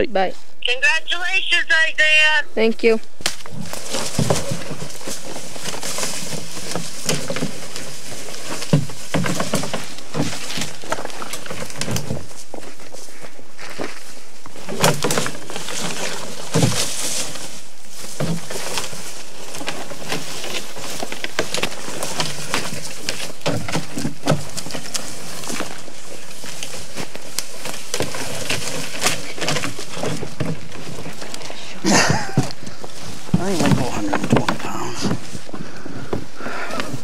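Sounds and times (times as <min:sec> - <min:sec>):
footsteps through dry leaves and twigs: 0:03.1 - 0:37.0
twigs snapping: 0:03.1 - 0:37.0
plastic sled scraping forest floor: 0:03.4 - 0:37.0.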